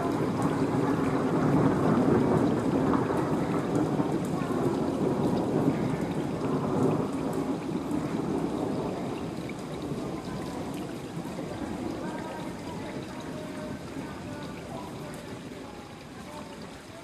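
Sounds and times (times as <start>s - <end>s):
low rumble of thunder: 0.0s - 15.6s
heavy rain: 0.0s - 17.0s.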